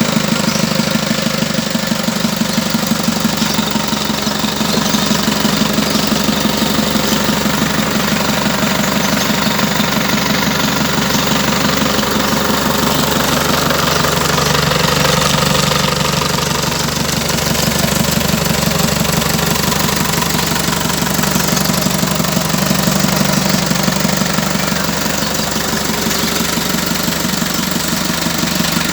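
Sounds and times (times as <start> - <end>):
engine running with knocking pulse: 0.0 - 28.9.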